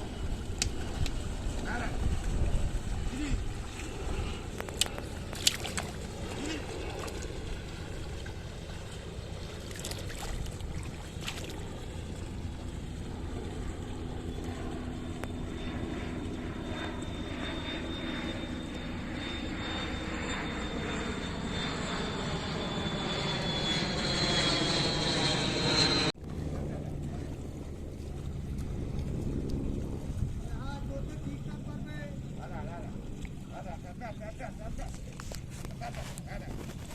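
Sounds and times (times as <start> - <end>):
engine drone: 0.0 - 36.9.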